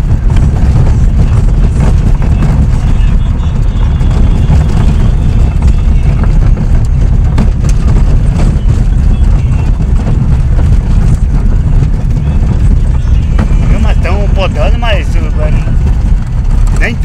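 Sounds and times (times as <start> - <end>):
car tyres rumbling on gravel: 0.0 - 17.0.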